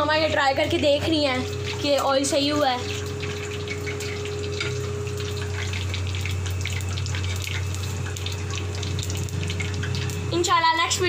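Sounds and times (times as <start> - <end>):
batter sizzling in hot oil: 0.0 - 11.0
steady low hum: 0.0 - 11.0.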